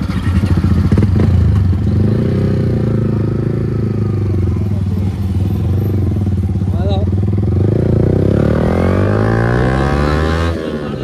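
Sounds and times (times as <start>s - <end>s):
motorcycle engines idling: 0.0s - 9.7s.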